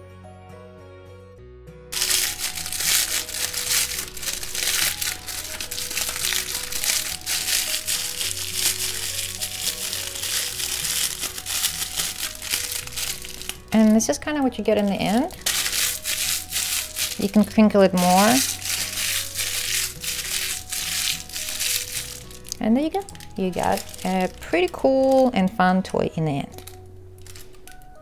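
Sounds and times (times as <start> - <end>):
paper crinkling: 1.9 - 25.4, 26.5 - 28.0.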